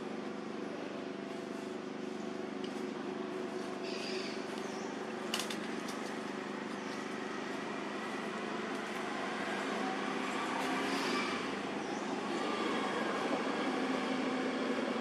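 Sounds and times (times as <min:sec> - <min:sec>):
outdoor background hiss and hum: 0:00.0 - 0:15.0.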